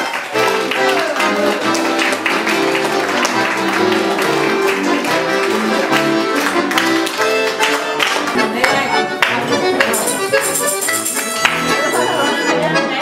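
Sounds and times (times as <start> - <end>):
audience clapping along: 0.0 - 12.3
accordion folk dance tune: 0.0 - 13.0.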